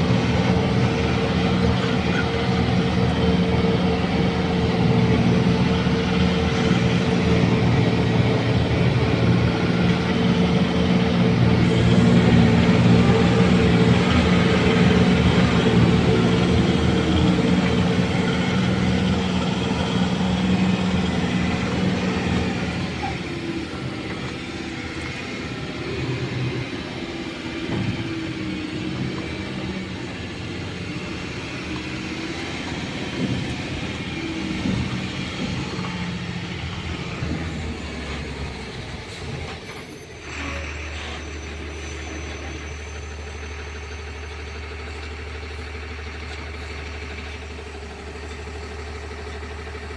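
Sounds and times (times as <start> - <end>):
diesel machinery engine running: 0.0 - 49.9.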